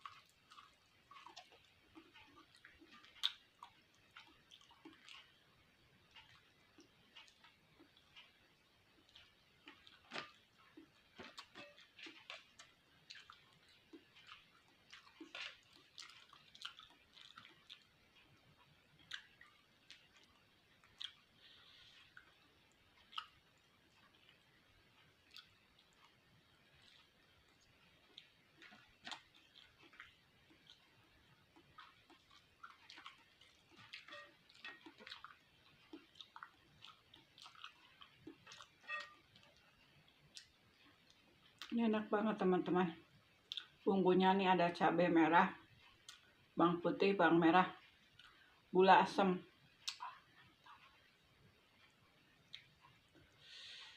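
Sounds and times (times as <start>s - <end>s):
chewing with wet mouth smacks: 0.0s - 41.8s, 43.3s - 43.9s, 45.6s - 46.6s, 47.7s - 48.7s, 49.5s - 53.8s.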